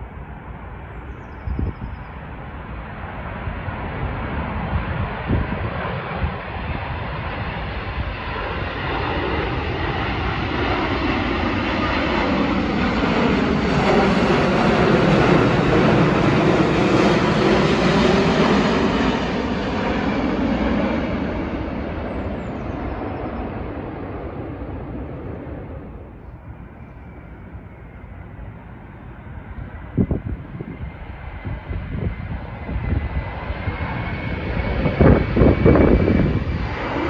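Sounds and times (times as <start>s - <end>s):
jet airliner engine rumble: 0.0s - 37.0s
wind buffeting microphone: 0.0s - 37.0s.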